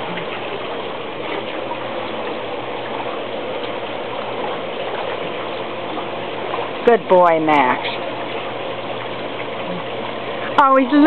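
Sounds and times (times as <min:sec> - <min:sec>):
churning water in hot tub: 0:00.0 - 0:11.0.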